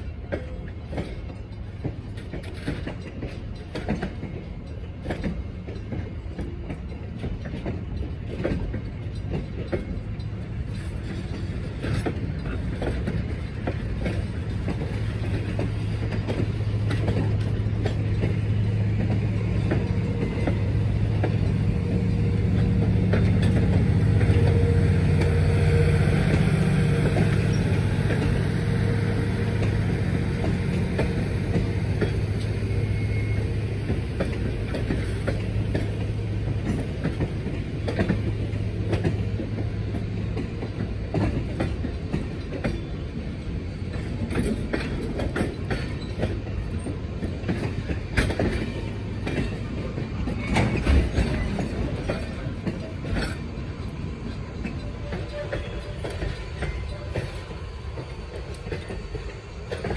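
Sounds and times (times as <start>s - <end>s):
wheels clicking over rail joints: 0.0s - 59.9s.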